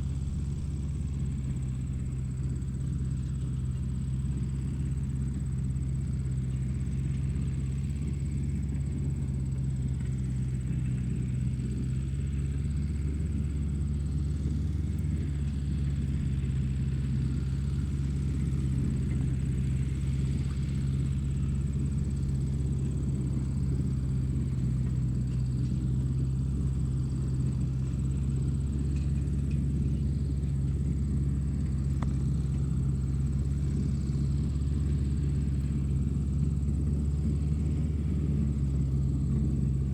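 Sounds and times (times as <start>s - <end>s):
low machine rumble: 0.0s - 39.9s.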